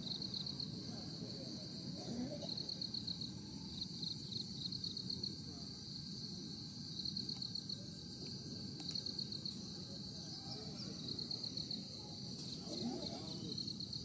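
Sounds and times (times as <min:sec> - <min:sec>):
insect chirping: 0:00.0 - 0:14.0.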